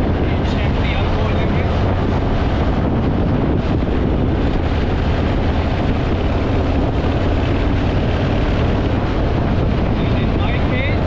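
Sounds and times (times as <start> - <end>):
motorcycle engine running: 0.0 - 11.0
wind on microphone: 0.0 - 11.0.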